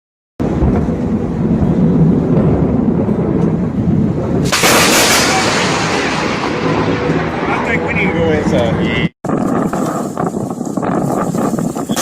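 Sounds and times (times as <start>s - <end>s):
sharp thunder crack: 0.4s - 10.3s
thunder rumbling: 0.4s - 12.0s.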